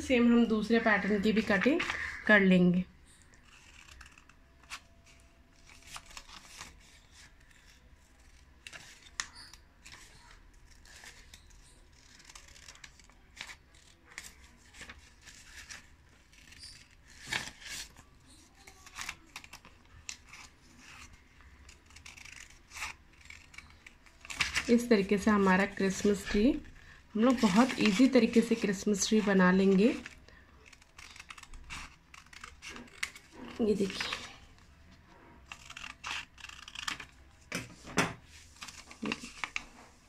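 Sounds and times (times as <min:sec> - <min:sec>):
scissors snipping paper: 0:03.2 - 0:34.4, 0:35.3 - 0:37.6, 0:38.6 - 0:39.7.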